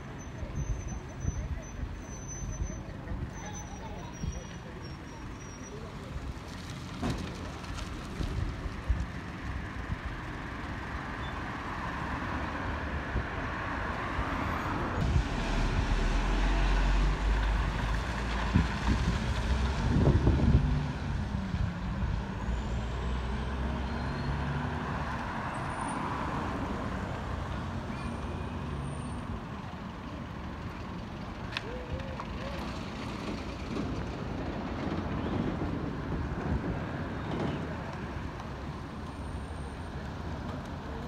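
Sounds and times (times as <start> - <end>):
heavy vehicle engine rumble: 0.0 - 41.0
street traffic: 0.0 - 41.0.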